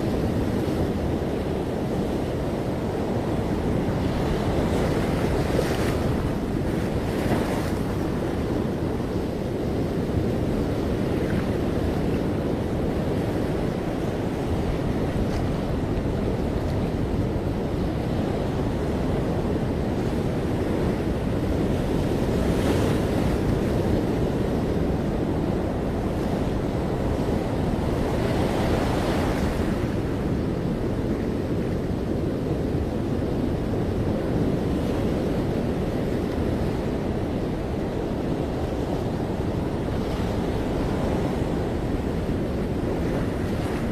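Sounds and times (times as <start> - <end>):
ocean surf breaking on beach: 0.0 - 43.9
wind rumble on microphone: 0.0 - 43.9.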